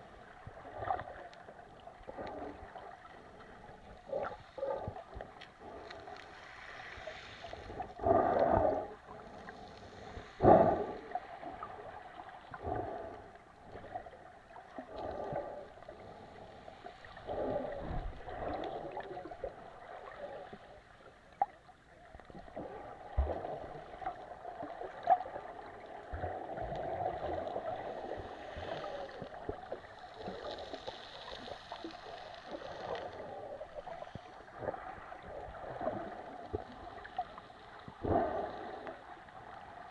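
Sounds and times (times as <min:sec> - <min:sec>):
sea water washing and sloshing: 0:00.0 - 0:39.9.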